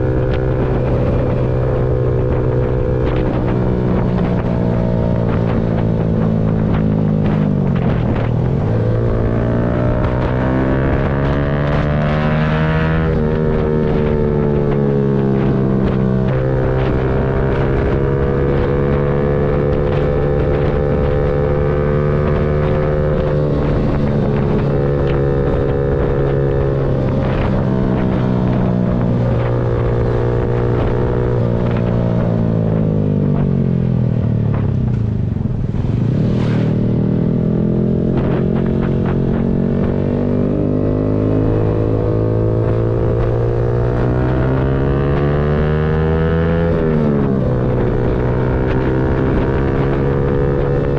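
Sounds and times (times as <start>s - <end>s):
motorcycle engine changing gears: 0.0s - 50.9s.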